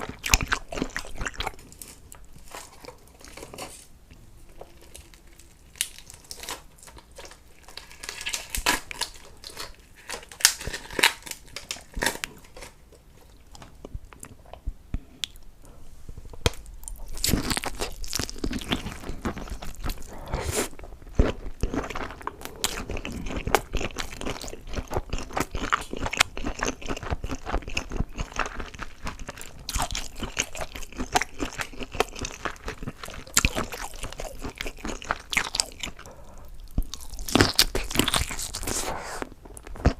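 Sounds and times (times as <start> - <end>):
crunchy food being chewed: 0.0 - 15.4, 16.1 - 39.9.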